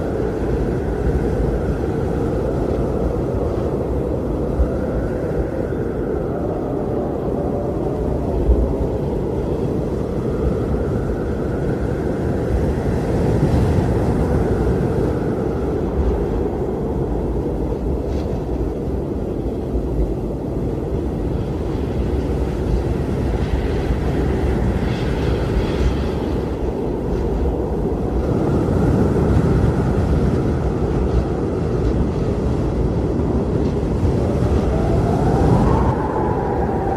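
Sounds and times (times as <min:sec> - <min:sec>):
faint wind whistling: 0:00.0 - 0:36.9
strong blizzard wind: 0:00.0 - 0:36.9.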